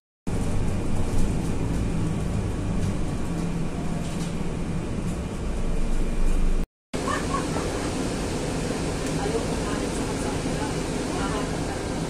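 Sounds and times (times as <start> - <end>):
bus engine and road noise: 0.3 - 12.0.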